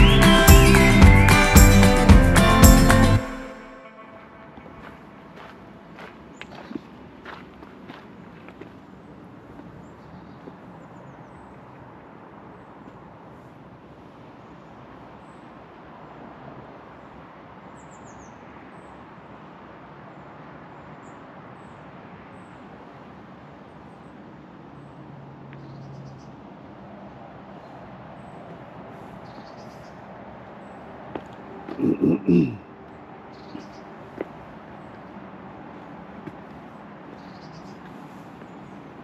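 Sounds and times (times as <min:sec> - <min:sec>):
steady outdoor hiss: 0:00.0 - 0:39.0.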